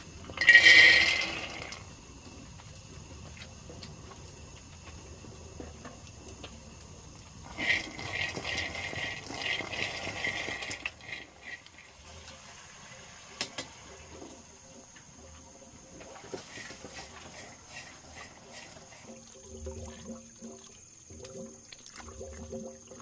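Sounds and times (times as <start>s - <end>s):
water running and splashing: 0.0s - 14.6s, 15.8s - 23.0s.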